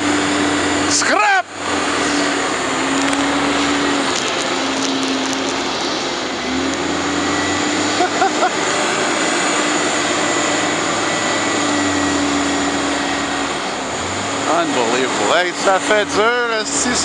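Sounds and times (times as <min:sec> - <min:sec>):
bus engine droning and whining: 0:00.0 - 0:17.0.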